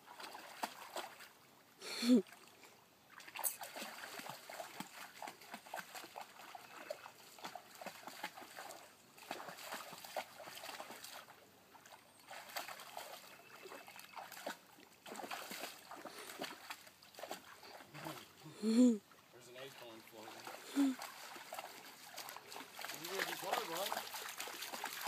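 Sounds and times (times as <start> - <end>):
dog splashing in shallow water: 0.0 - 1.4, 2.2 - 18.4, 19.6 - 25.0.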